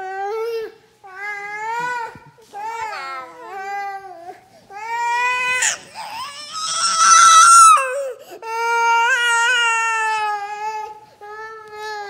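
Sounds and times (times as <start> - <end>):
toddler crying: 0.0 - 12.0.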